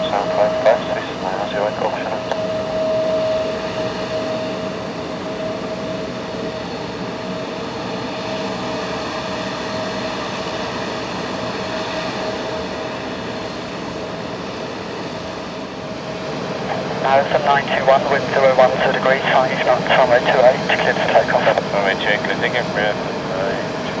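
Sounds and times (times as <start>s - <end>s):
jet engines running with whine: 0.0s - 24.0s.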